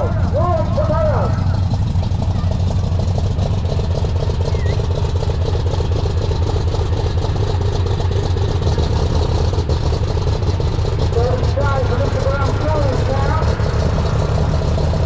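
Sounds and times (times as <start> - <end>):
tractor diesel engine idling: 0.0 - 15.0.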